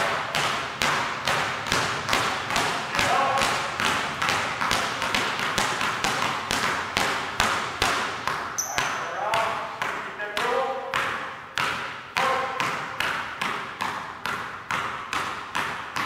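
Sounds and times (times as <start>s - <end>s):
basketballs bouncing on hardwood floor: 0.0s - 16.0s.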